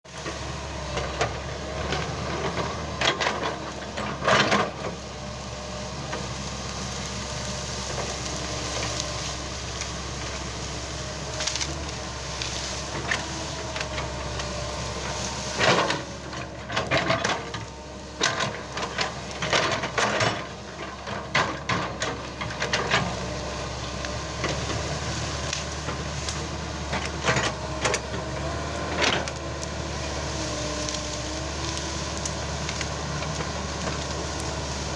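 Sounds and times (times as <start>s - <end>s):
excavator diesel engine running: 0.0s - 34.9s
branches and logs snapping: 0.2s - 34.9s.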